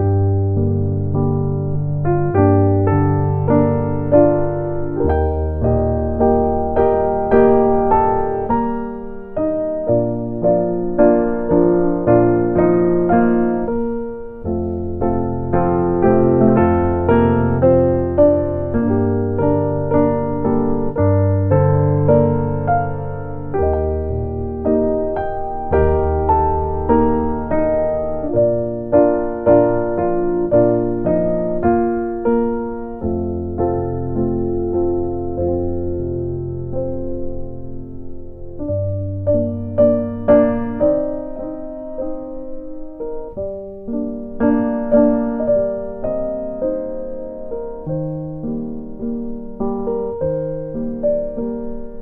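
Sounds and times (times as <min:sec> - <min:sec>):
gentle piano music: 0:00.0 - 0:52.0.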